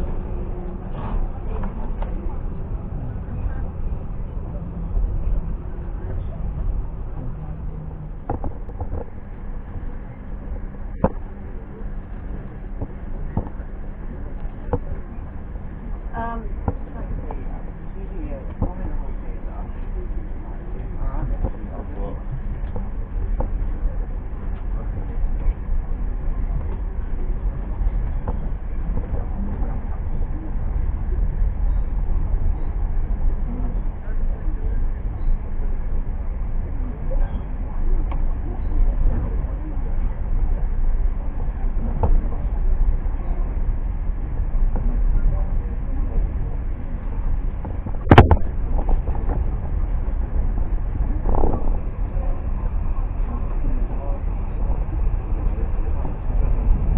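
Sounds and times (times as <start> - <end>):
train rumbling: 0.0 - 56.9.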